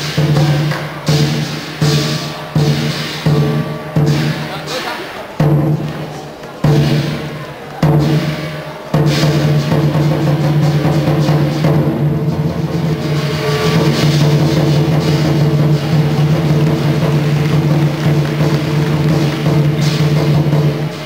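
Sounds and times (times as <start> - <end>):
large drum beating: 0.0 - 21.0
percussion ensemble: 0.0 - 21.0.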